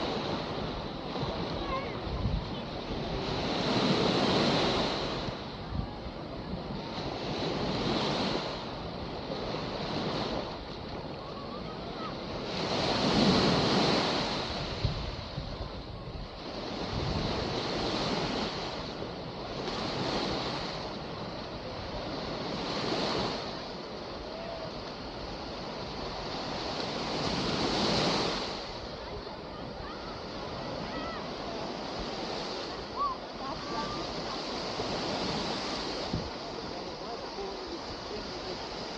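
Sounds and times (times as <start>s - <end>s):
small waves breaking on shore: 0.0s - 38.9s
wind on microphone: 0.0s - 38.9s.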